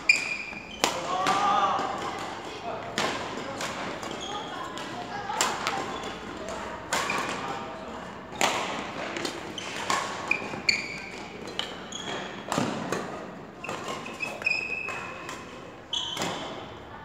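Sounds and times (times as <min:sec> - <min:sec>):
sneakers squeaking on court floor: 0:00.0 - 0:01.2, 0:03.2 - 0:16.8
rackets hitting shuttlecocks: 0:00.0 - 0:16.8.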